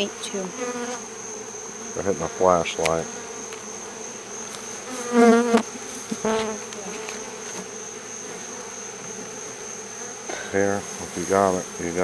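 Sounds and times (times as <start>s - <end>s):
bee swarm buzzing: 0.0s - 12.0s
bees passing close: 0.0s - 12.0s.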